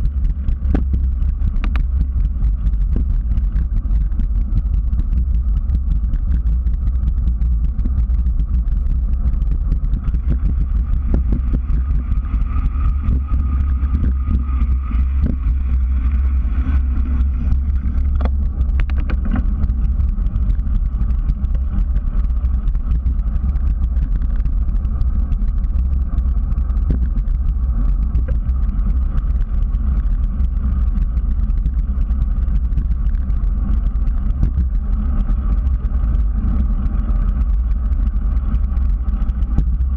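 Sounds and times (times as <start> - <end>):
bicycle rolling on concrete: 0.0 - 39.9
wind on microphone: 0.0 - 39.9.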